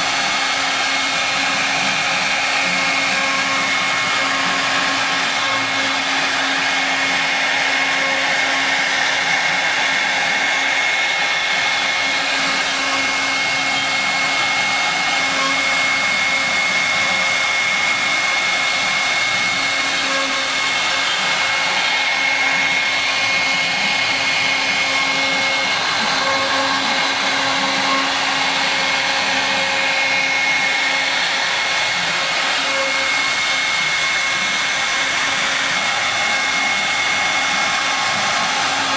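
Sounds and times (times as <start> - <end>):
cnc router spindle whining: 0.0 - 38.9.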